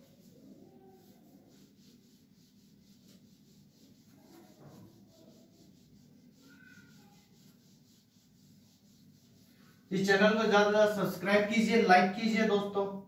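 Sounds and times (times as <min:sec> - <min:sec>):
whiteboard being wiped: 0:00.0 - 0:12.7.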